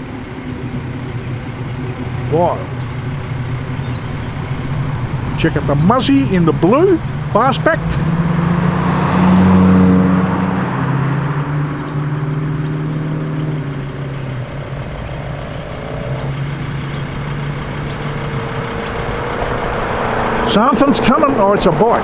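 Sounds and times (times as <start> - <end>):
car engine at low revs: 0.0 - 22.0.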